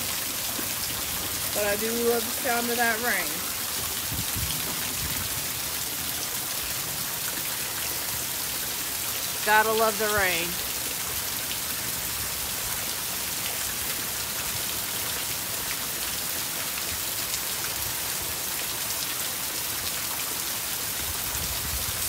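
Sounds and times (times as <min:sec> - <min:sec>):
heavy rain pouring: 0:00.0 - 0:22.0
raindrops ticking close by: 0:00.0 - 0:22.0.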